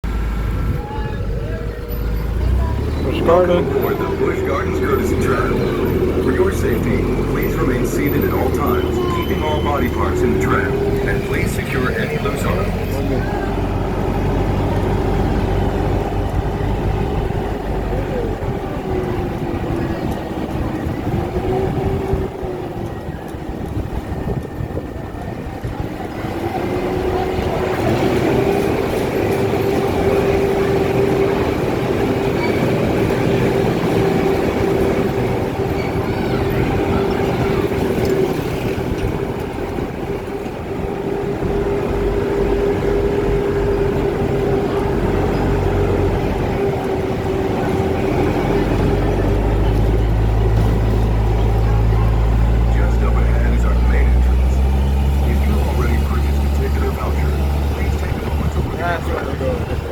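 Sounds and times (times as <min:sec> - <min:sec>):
tram drive whine: 0:00.0 - 0:59.9
tram rolling rumble: 0:00.0 - 0:59.9.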